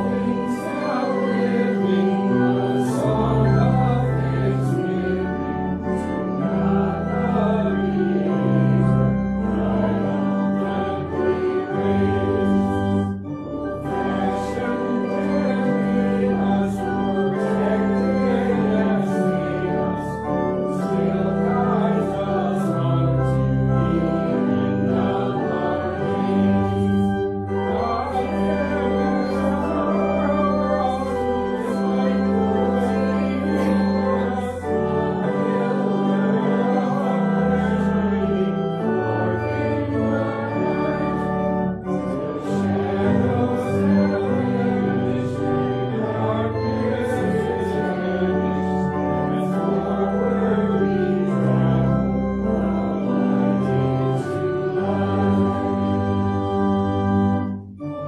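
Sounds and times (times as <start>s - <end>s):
congregation singing a hymn: 0.0s - 58.0s
pipe organ chords: 0.0s - 58.0s.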